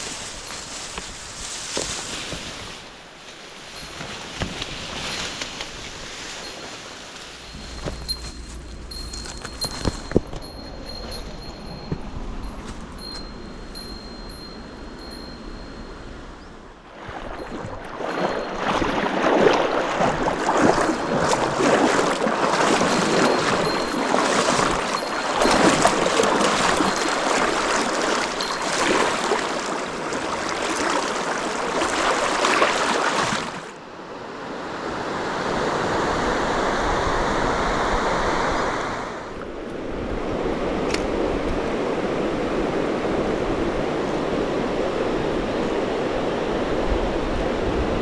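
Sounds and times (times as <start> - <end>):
stream water rushing: 2.8 - 15.4, 16.8 - 48.0.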